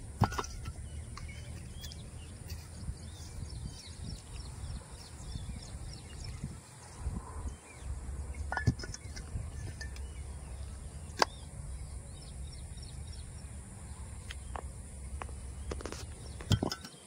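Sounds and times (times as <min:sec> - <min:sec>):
steady low rumble: 0:00.0 - 0:16.6.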